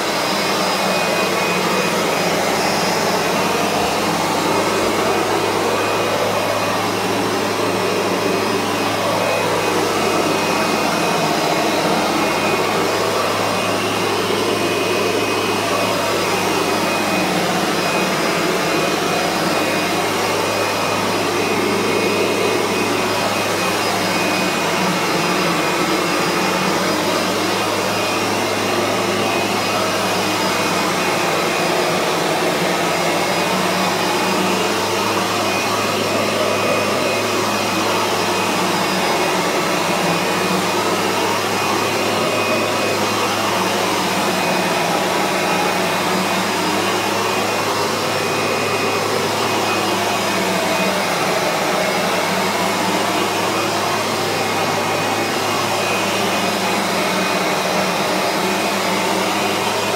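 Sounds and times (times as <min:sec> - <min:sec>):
vacuum cleaner motor running: 0:00.0 - 0:59.9.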